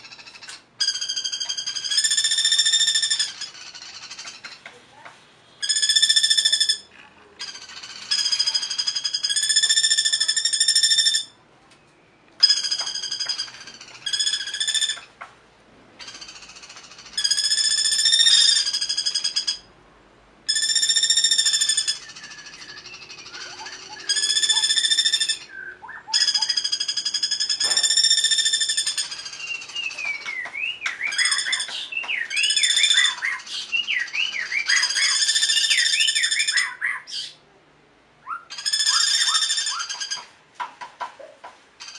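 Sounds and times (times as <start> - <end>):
whistled bird song: 0.0 - 4.6, 5.6 - 15.1, 17.2 - 19.7, 20.5 - 37.4, 38.2 - 40.3.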